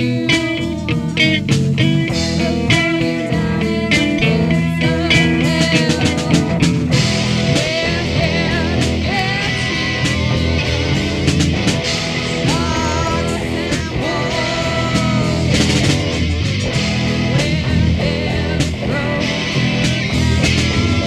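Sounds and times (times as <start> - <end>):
blues-rock guitar jam: 0.0 - 21.0
steady beat: 0.0 - 21.0.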